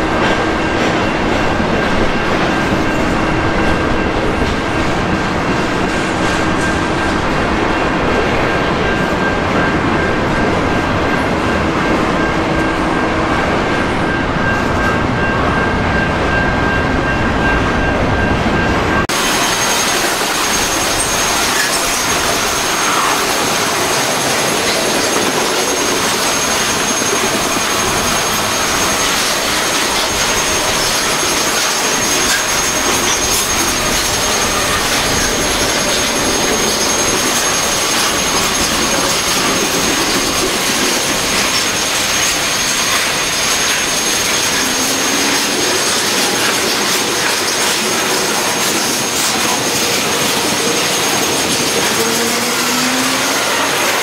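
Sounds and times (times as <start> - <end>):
train wheels roaring on rails: 0.0 - 54.0.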